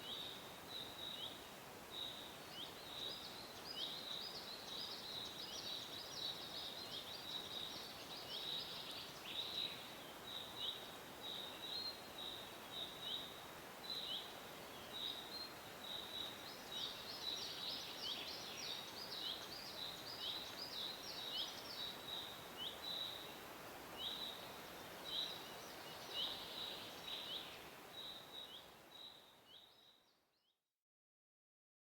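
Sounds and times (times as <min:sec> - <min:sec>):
soft even hiss: 0:00.0 - 0:30.2.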